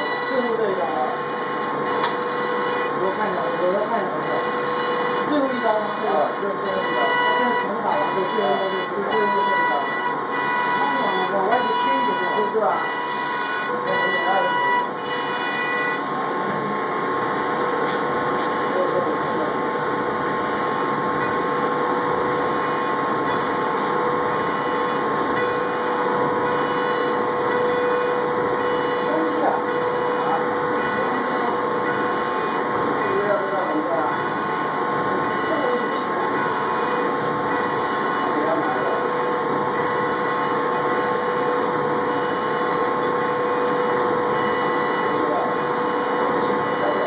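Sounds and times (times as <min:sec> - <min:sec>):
machining noise: 0:00.0 - 0:47.0
wood router whining: 0:00.0 - 0:47.0.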